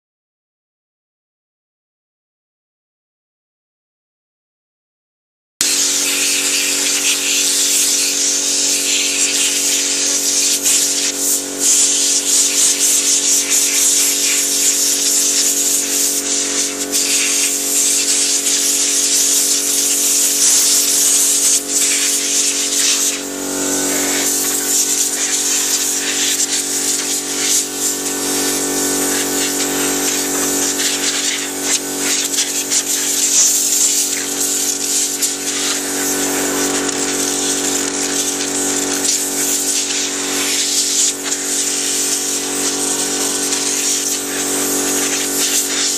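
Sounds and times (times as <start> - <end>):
steady hum: 5.6 - 45.7
compressed air hissing: 5.6 - 45.9.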